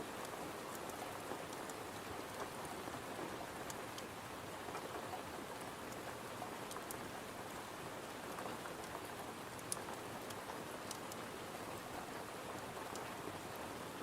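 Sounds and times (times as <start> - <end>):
rain pattering on a window: 0.0 - 14.0.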